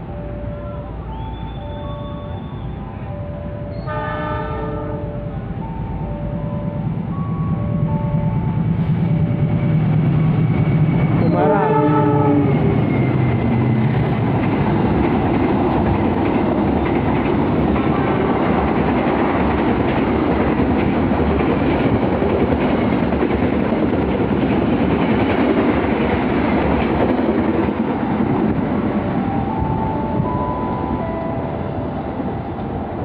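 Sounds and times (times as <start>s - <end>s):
train wheels rumbling on rails: 0.9s - 33.0s.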